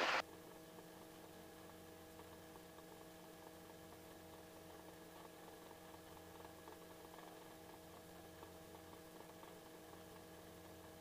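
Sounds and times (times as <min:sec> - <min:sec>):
faint hum with held tones: 0:00.0 - 0:11.0.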